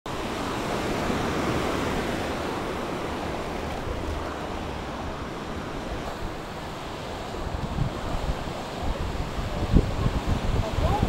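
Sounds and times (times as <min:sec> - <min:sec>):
waves breaking on a beach: 0:00.1 - 0:11.0.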